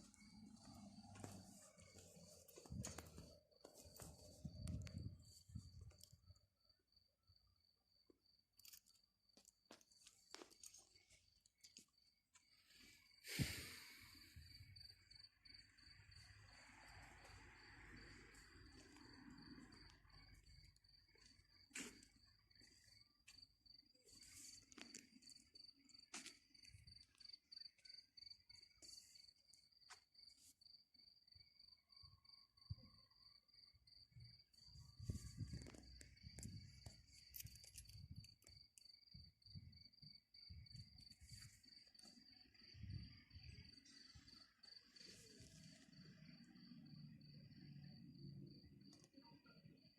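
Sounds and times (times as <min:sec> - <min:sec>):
cricket trilling: 0:00.0 - 0:49.9.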